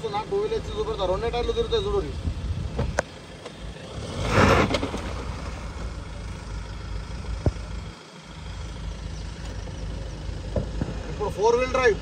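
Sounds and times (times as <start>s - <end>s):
engine running low under load: 0.0s - 12.0s.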